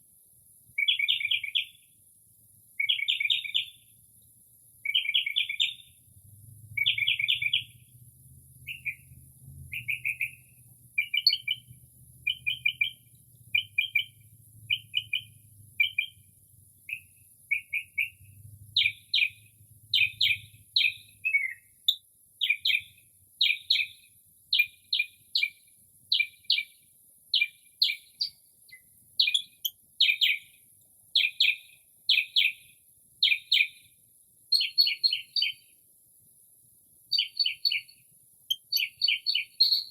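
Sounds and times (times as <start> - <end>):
mockingbird singing: 0.8 - 1.8, 2.8 - 3.8, 4.8 - 6.0, 6.7 - 7.8, 8.6 - 30.6, 31.2 - 33.9, 34.5 - 35.7, 37.1 - 39.9.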